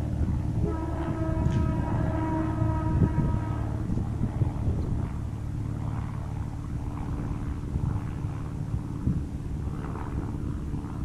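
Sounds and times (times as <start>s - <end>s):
constant hum: 0.0s - 11.0s
low rumble: 0.0s - 11.0s.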